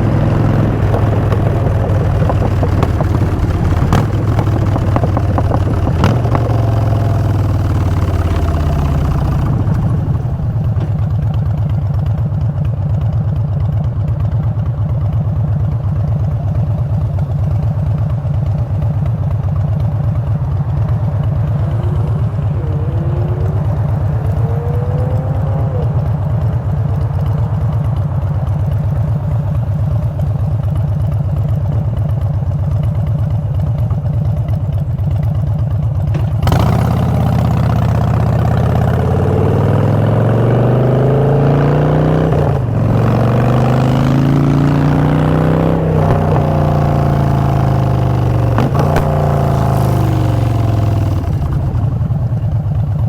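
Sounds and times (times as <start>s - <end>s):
motorcycle engine slowing and idling: 0.0s - 53.0s.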